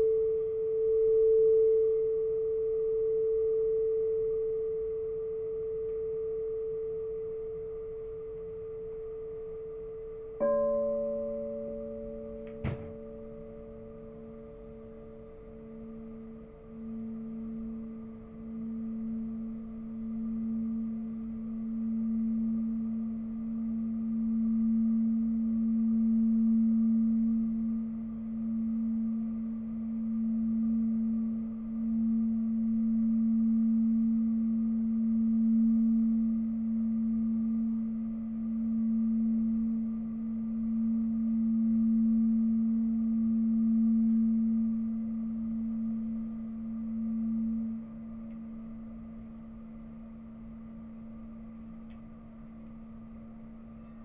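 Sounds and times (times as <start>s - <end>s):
singing bowl low hum: 0.0s - 54.0s.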